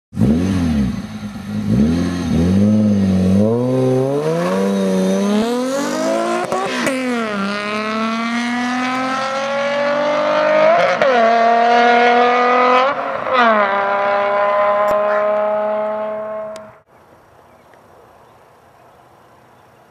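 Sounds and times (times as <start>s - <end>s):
car engine revving and accelerating: 0.2s - 16.8s.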